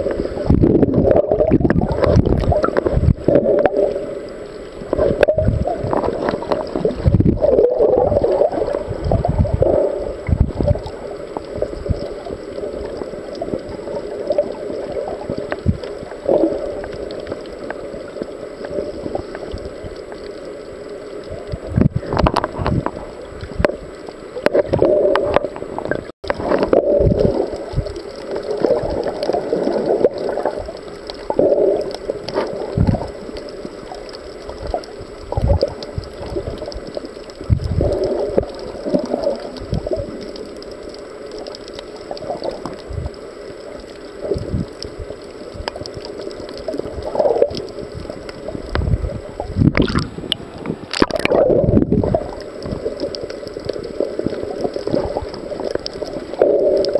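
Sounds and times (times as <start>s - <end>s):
water gurgling underwater: 0.0s - 56.9s.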